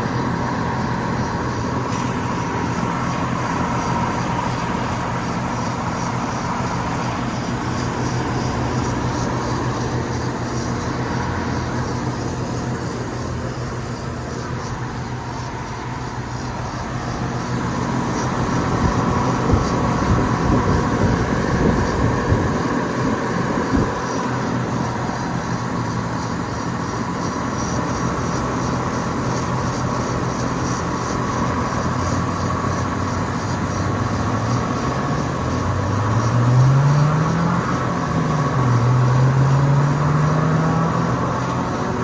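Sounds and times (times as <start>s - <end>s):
air conditioner humming: 0.0s - 36.2s.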